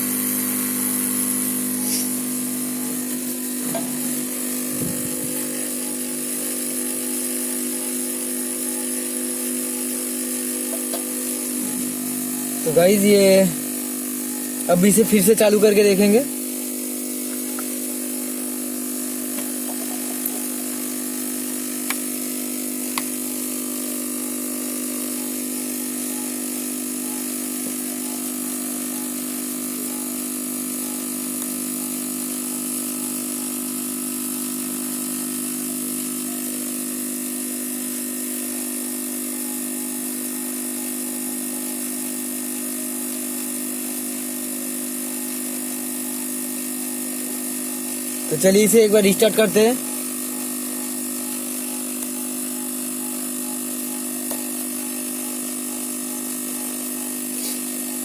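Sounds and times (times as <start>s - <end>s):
electric fan motor whirring: 0.0s - 58.0s.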